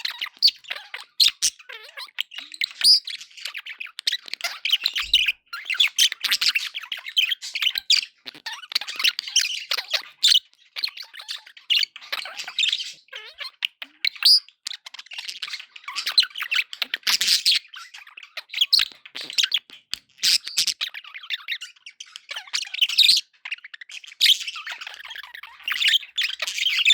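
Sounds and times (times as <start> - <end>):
budgies chirping and squawking: 0.0 - 26.9.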